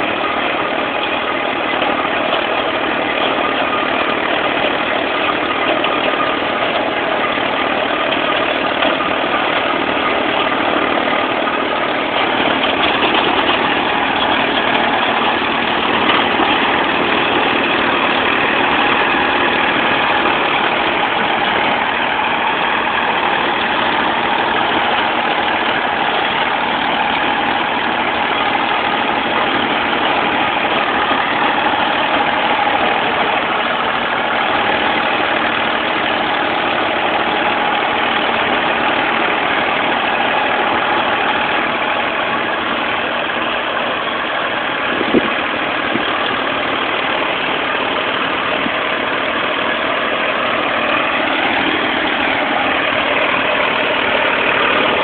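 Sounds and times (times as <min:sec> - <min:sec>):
rotary tiller through soil: 0:00.0 - 0:55.0
tractor diesel engine under load: 0:00.0 - 0:55.0.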